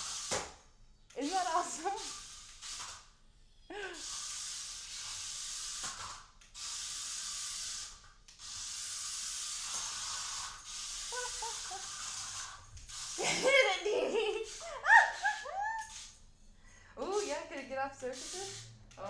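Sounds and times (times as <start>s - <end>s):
small electric motors whirring: 1.2s - 16.3s, 17.0s - 19.0s.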